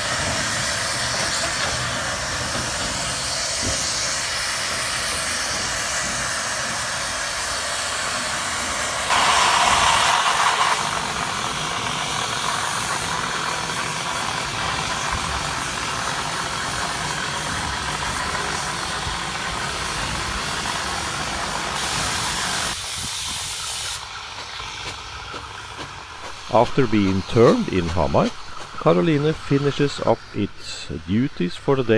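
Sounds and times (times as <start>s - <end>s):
steam blast: 0.0s - 31.9s
steam locomotive hissing: 0.0s - 31.9s.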